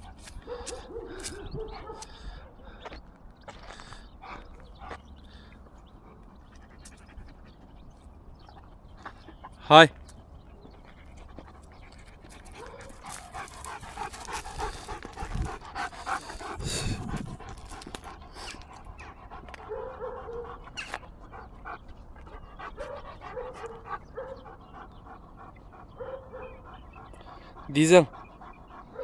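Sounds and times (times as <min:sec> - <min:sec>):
large dog panting: 0:04.0 - 0:09.7, 0:10.4 - 0:29.0.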